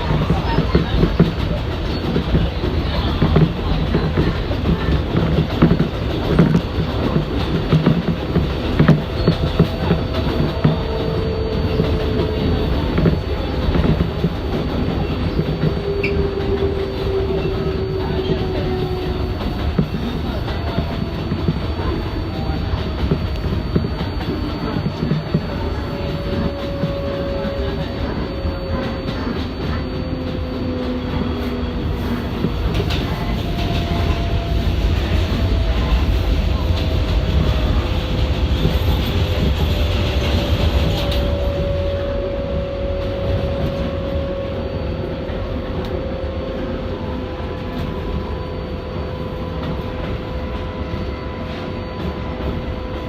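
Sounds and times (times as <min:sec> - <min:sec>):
faint steady tones: 0:00.0 - 0:53.0
subway car rumbling: 0:00.0 - 0:53.0.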